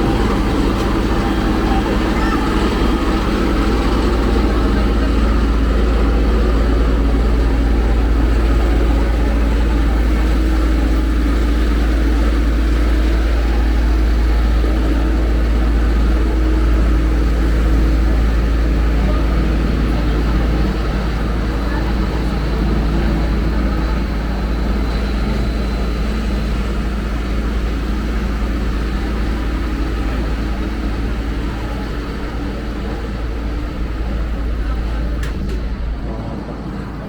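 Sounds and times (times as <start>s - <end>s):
large engine idling: 0.0s - 37.0s.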